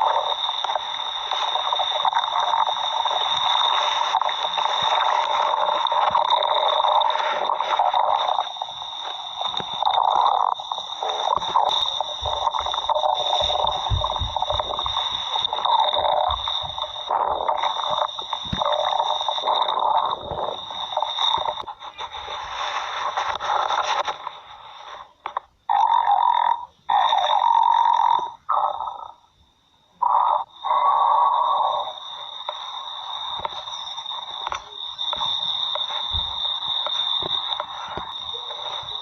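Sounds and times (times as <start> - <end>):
stomach growling: 0.0 - 29.3, 30.0 - 39.0
high-pitched whine: 0.0 - 39.0.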